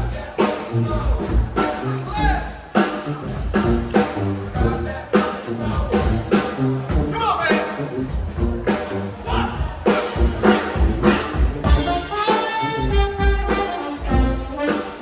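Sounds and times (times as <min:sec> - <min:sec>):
brass band playing jazz: 0:00.0 - 0:15.0.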